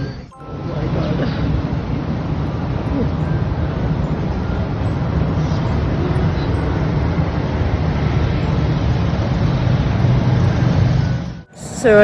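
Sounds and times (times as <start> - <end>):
low rumbling outdoor noise: 0.0 - 12.0.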